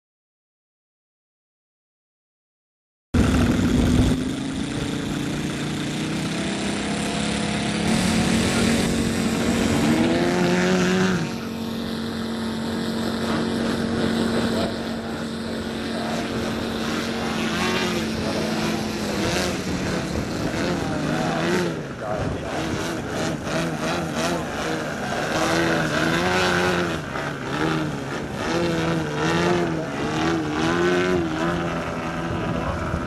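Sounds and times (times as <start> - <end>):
model plane engines and propellers: 3.2 - 33.0.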